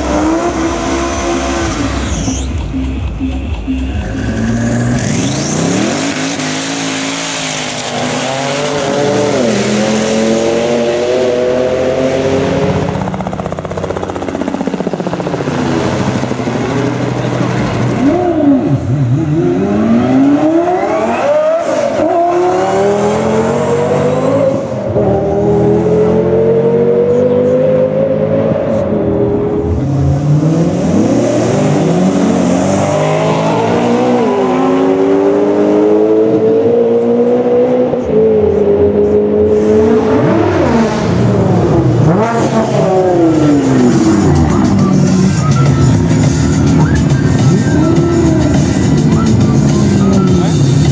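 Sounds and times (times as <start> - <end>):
racing cars accelerating: 0.0 - 50.9.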